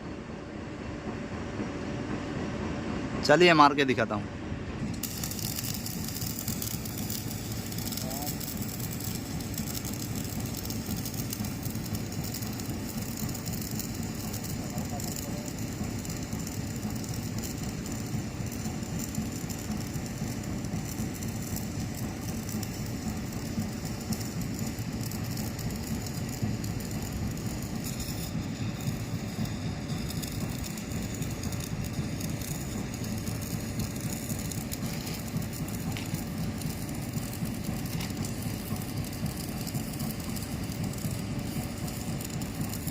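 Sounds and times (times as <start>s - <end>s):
welding arc crackling: 4.8s - 42.9s.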